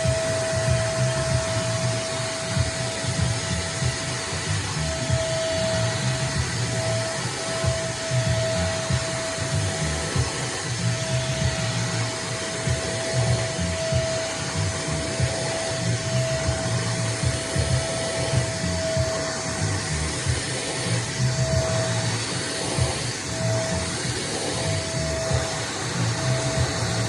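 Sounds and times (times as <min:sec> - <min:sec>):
wet and dry vacuum cleaner running: 0:00.0 - 0:27.0.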